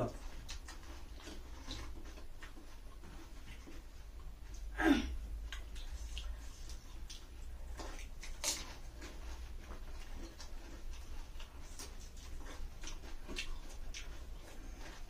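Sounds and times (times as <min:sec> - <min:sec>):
mouth and chewing noises: 0:00.0 - 0:15.0.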